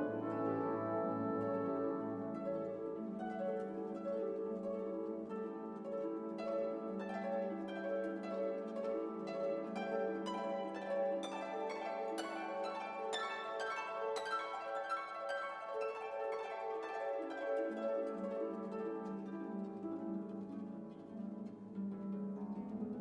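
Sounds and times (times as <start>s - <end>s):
gentle orchestral music: 0.0s - 23.0s.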